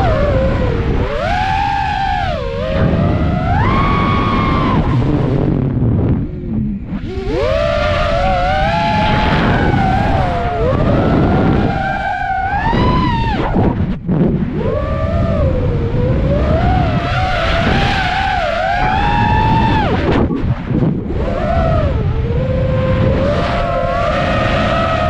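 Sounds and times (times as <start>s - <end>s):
drone motors whining: 0.0s - 25.0s
rush of wind: 0.0s - 25.0s.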